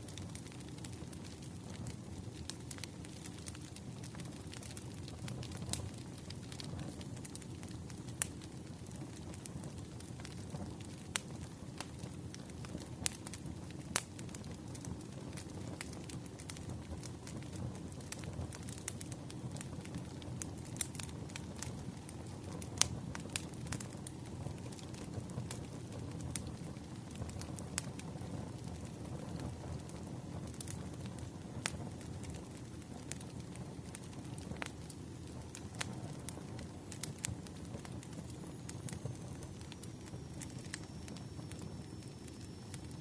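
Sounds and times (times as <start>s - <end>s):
flames rumbling: 0.0s - 43.0s
wood crackling and popping: 0.0s - 43.0s.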